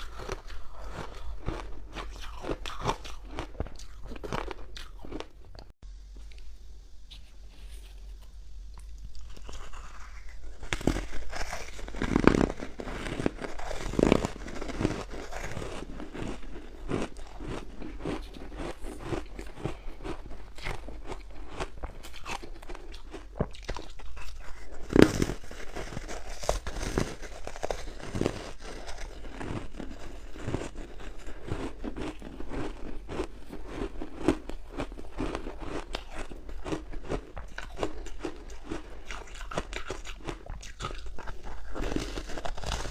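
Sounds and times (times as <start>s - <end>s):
chewing hard ice: 0.0s - 5.7s, 9.1s - 42.9s.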